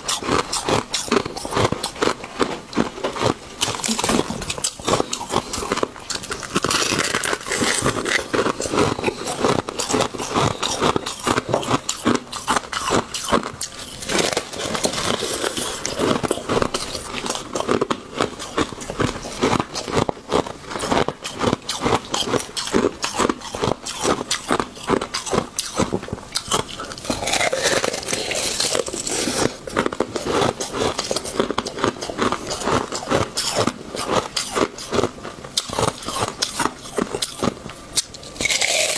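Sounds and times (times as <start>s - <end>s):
person crunching ice: 0.0s - 38.9s.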